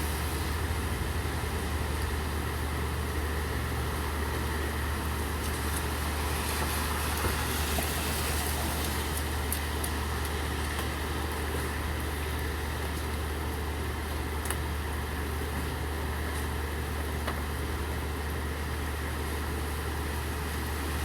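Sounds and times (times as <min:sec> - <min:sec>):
steady rain falling: 0:00.0 - 0:17.9.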